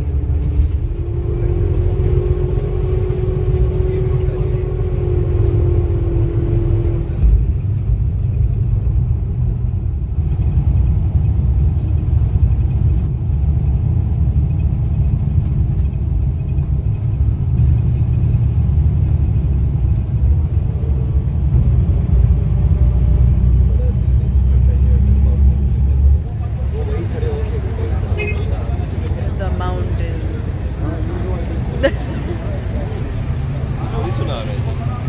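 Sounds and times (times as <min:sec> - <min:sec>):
road and engine rumble: 0:00.0 - 0:35.0.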